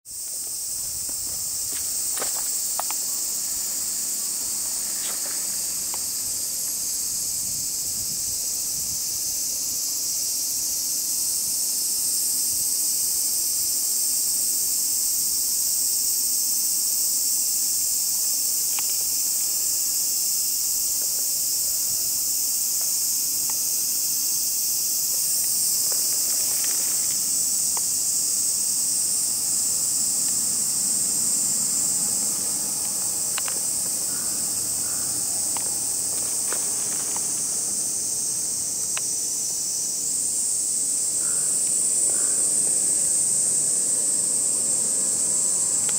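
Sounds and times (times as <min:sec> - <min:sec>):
insects shrilling: 0:00.1 - 0:45.9.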